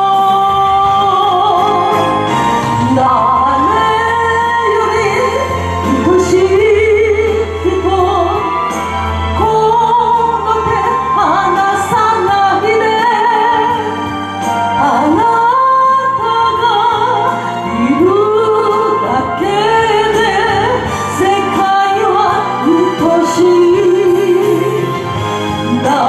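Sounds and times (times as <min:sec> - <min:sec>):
instrumental accompaniment: 0:00.0 - 0:26.0
woman singing into a microphone: 0:00.0 - 0:26.0.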